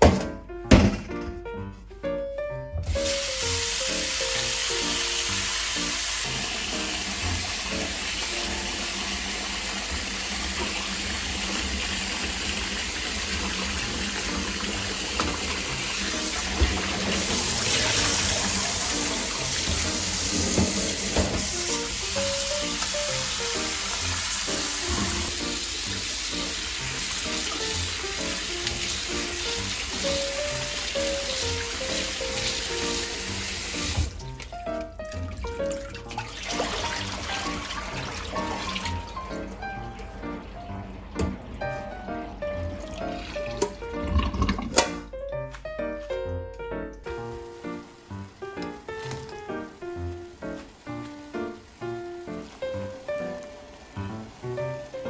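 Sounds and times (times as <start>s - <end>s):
background music: 0.0s - 10.3s, 12.4s - 55.0s
tap water running: 2.8s - 55.0s.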